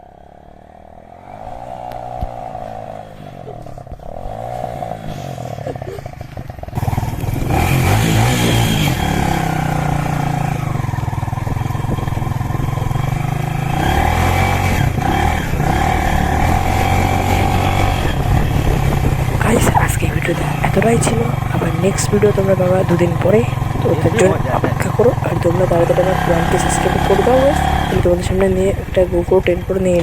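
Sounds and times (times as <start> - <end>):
motorcycle engine running: 1.9 - 30.0.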